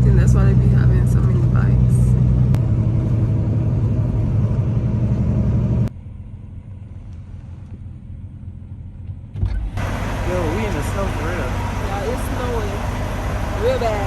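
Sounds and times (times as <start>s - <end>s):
low hum: 0.0s - 14.0s
truck engine and road noise: 0.0s - 14.0s.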